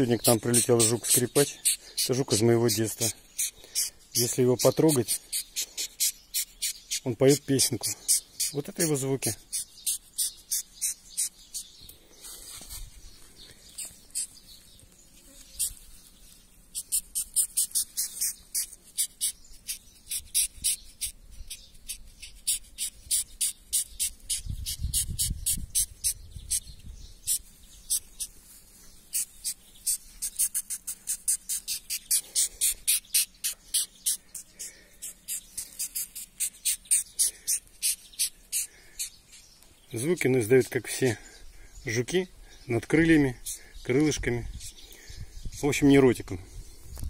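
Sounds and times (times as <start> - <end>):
beetle squeaking: 0.0 - 11.8, 13.6 - 28.4, 29.0 - 41.1, 41.8 - 44.8.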